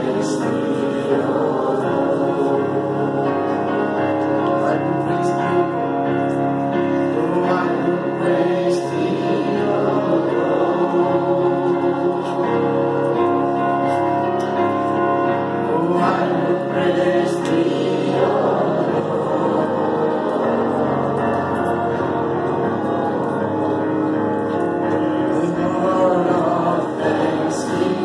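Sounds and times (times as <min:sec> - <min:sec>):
congregation singing: 0:00.0 - 0:28.0.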